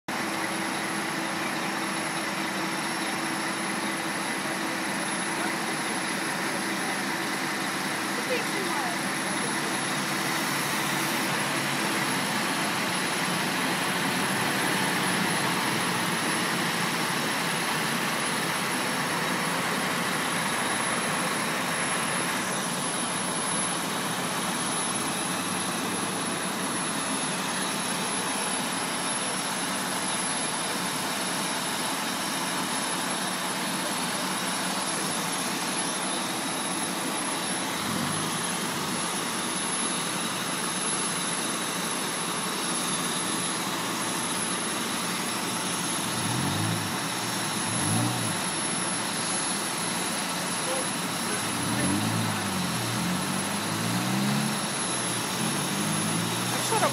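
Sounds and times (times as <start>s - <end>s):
diesel engines running: 0.1s - 56.9s.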